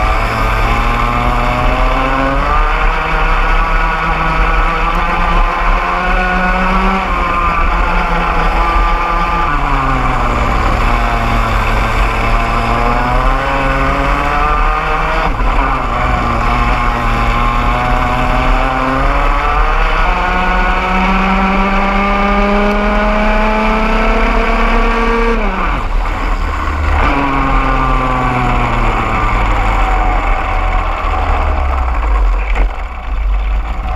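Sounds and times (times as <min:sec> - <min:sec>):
kart engine at race speed: 0:00.0 - 0:33.9
other kart engines: 0:00.0 - 0:33.9.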